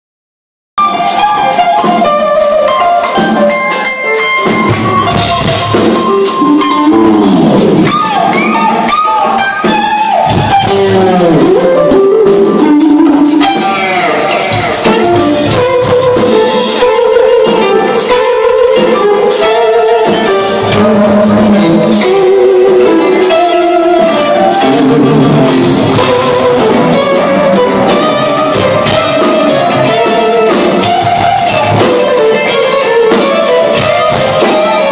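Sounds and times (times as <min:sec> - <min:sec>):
electric guitars: 0:00.8 - 0:34.9
live instrumental rock: 0:00.8 - 0:34.9.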